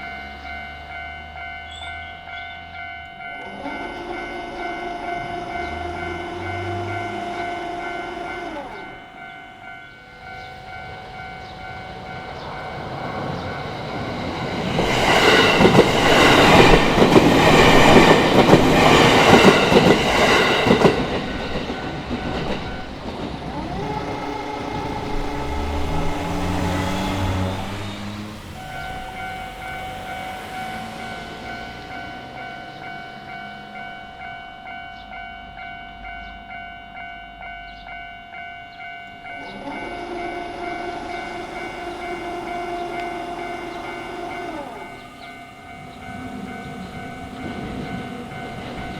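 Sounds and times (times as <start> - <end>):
level crossing bell ringing: 0.0 - 28.0, 28.6 - 48.9
train wheels clattering on rails: 2.8 - 9.3, 10.2 - 35.2, 36.1 - 48.9
train motor whine: 3.0 - 32.9, 39.2 - 48.9.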